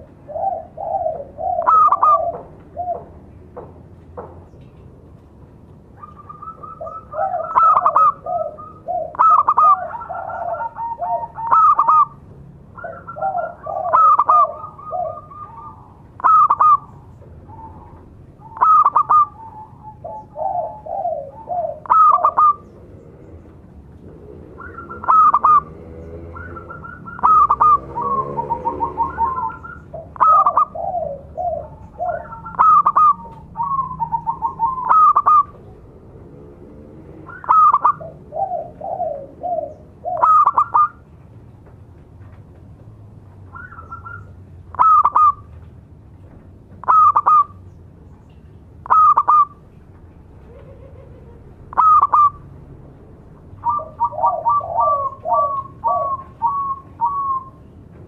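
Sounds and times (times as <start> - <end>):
doves cooing with pulsed trills: 0.0 - 3.4, 5.7 - 36.2, 37.1 - 41.2, 43.5 - 45.6, 46.8 - 47.7, 48.8 - 52.6, 53.4 - 57.7.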